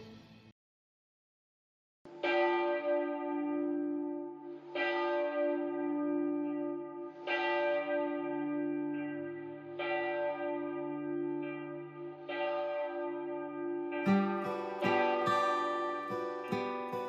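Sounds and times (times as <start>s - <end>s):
church bell tolling: 2.1s - 17.0s.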